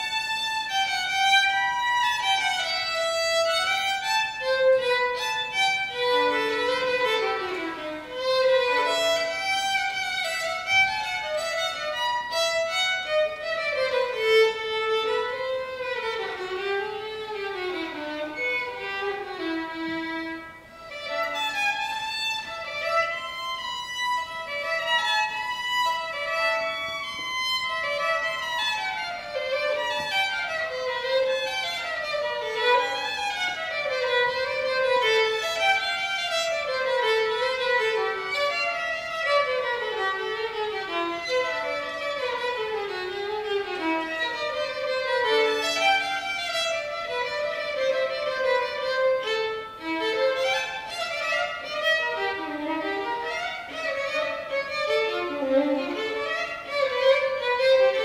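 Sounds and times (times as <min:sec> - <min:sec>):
solo violin runs: 0:00.0 - 0:58.0.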